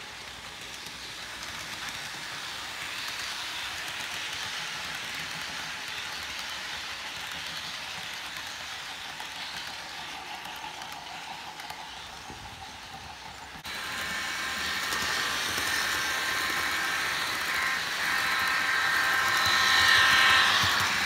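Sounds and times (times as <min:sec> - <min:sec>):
model train wheels clattering on rails: 0:00.0 - 0:21.0.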